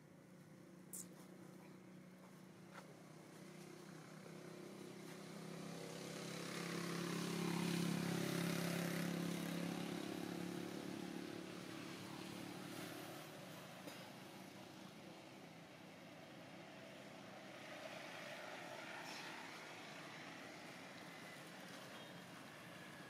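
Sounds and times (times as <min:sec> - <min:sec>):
vehicle engine passing by: 0:03.2 - 0:23.0.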